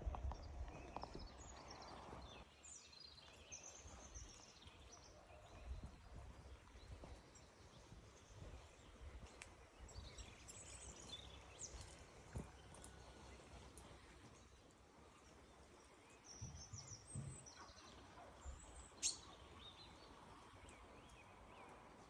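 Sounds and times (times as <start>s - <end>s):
small birds chirping: 0.2s - 22.0s.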